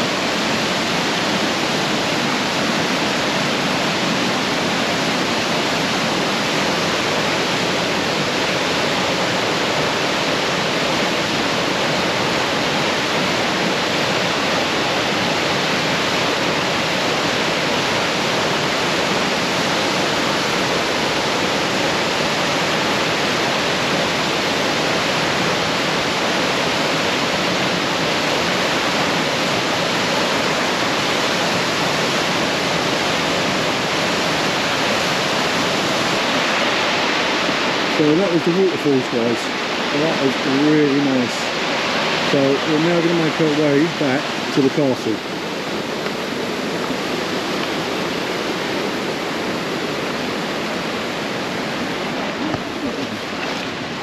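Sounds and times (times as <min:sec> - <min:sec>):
waterfall crashing: 0:00.0 - 0:54.0.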